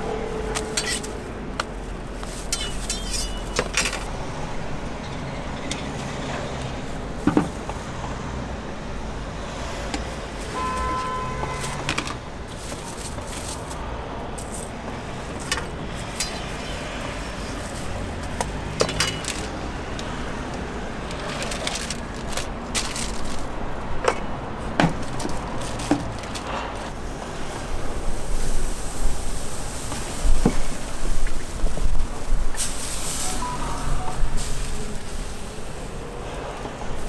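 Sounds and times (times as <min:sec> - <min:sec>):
street noise: 0:00.0 - 0:37.0.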